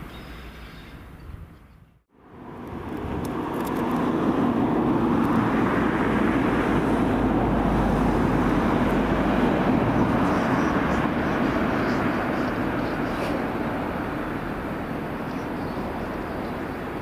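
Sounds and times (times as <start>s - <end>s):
train passing rumble: 2.1s - 17.0s.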